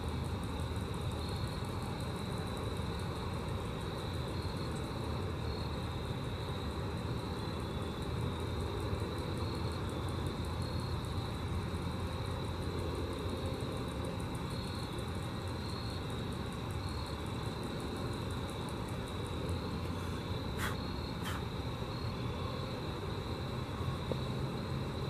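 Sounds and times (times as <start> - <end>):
grasshopper stridulating: 0.0 - 25.0.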